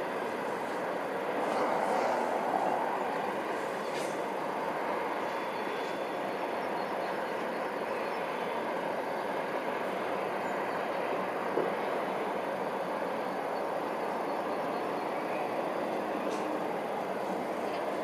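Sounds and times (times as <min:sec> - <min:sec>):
distant traffic rushing: 0:00.0 - 0:18.0.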